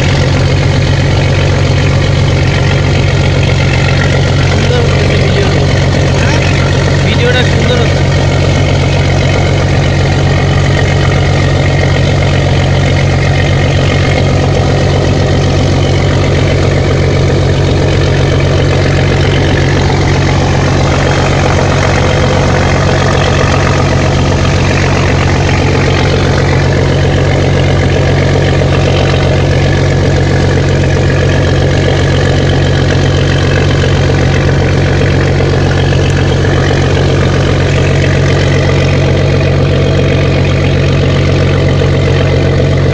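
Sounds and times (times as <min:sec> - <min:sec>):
heavy engine droning: 0:00.0 - 0:42.9.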